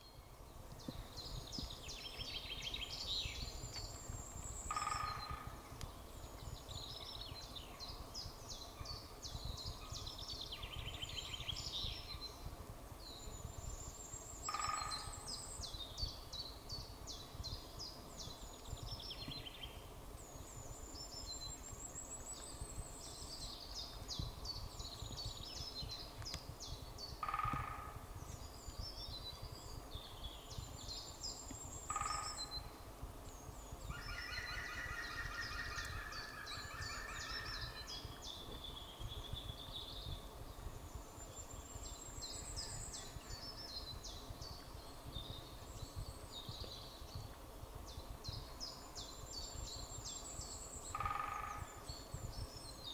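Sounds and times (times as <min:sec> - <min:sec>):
songbirds trilling: 0:00.0 - 0:52.9.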